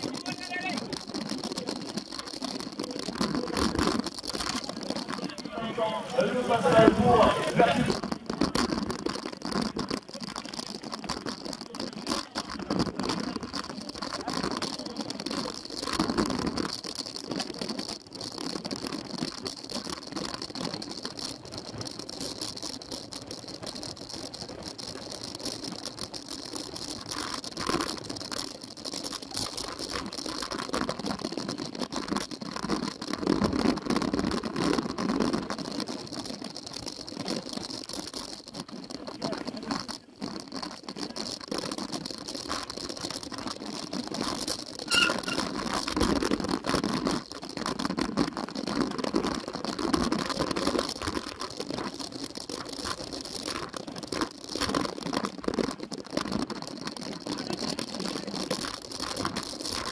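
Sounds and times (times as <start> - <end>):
bike rattling over dirt: 0.0 - 59.9
tyre noise: 0.0 - 59.9.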